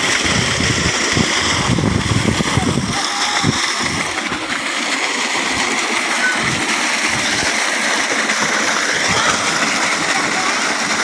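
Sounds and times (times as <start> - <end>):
water gushing from pipe: 0.0 - 11.0.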